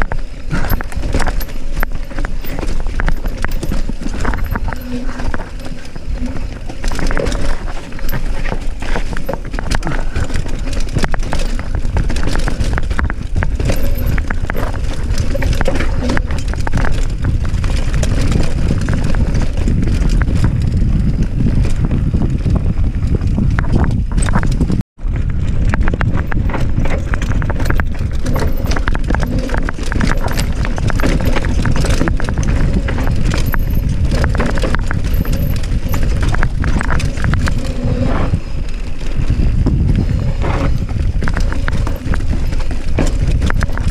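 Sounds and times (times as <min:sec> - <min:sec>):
bike tyres and frame clattering: 0:00.0 - 0:43.9
heavy rumble on microphone: 0:00.0 - 0:43.9.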